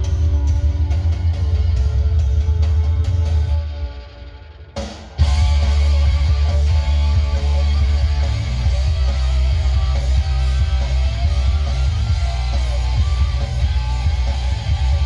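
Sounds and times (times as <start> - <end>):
hard rock band playing: 0.0 - 15.0.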